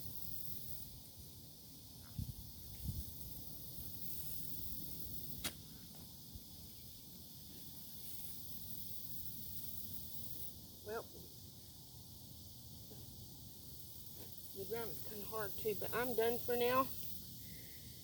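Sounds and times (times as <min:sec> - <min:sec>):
steady high hiss: 0:00.0 - 0:18.0.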